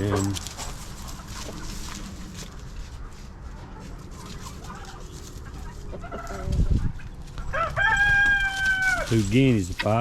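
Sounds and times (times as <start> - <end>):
chickens clucking and calling: 0.0 - 9.1.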